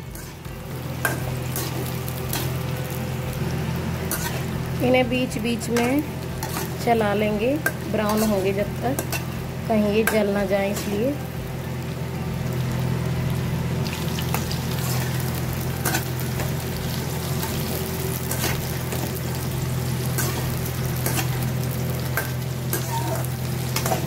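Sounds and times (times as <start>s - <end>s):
steady low hum: 0.0s - 24.0s
vegetables sizzling in hot oil: 0.0s - 24.0s.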